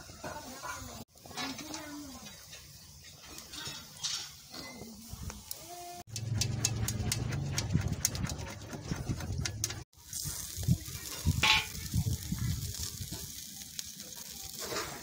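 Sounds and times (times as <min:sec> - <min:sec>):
fat crackling on coals: 0:00.0 - 0:15.0
meat sizzling over charcoal: 0:00.0 - 0:15.0.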